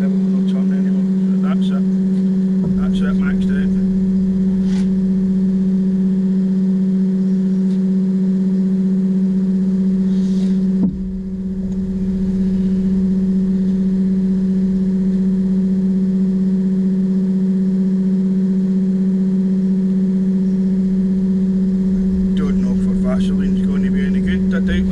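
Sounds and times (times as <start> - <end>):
electric motor humming: 1.9 - 17.5, 20.4 - 24.9.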